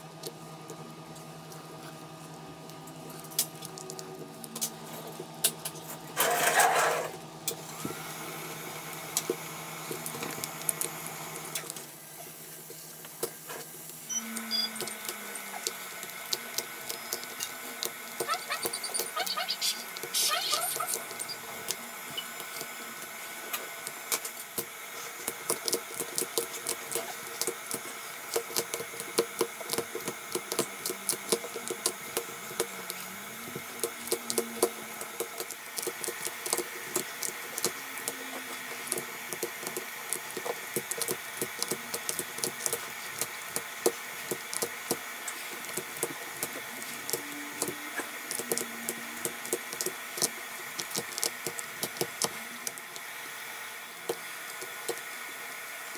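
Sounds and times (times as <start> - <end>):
steady hum: 0.0 - 55.9.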